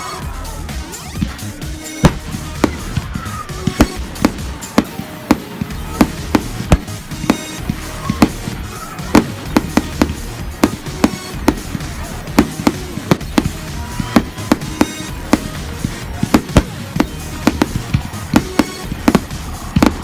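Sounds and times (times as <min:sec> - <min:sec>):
music playing: 0:00.0 - 0:20.0
fireworks bangs: 0:00.8 - 0:20.0.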